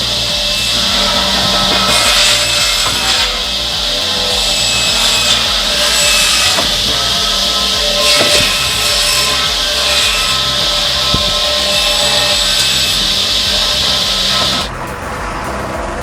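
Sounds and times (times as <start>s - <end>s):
power saw cutting wood: 0.0s - 15.6s.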